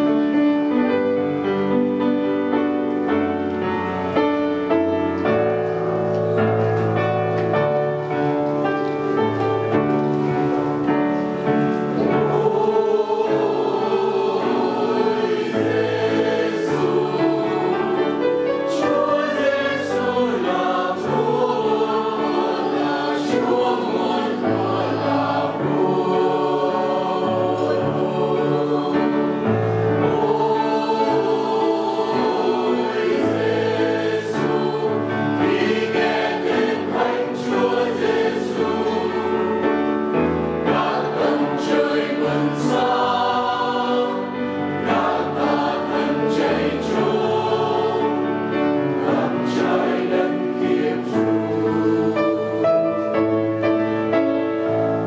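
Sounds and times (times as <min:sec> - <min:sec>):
mixed choir singing a hymn: 0:00.0 - 0:55.0.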